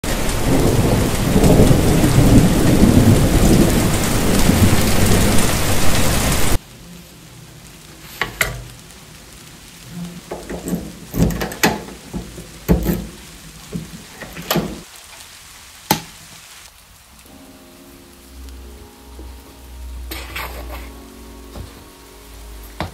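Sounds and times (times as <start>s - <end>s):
heavy rain pouring: 0.0s - 22.9s.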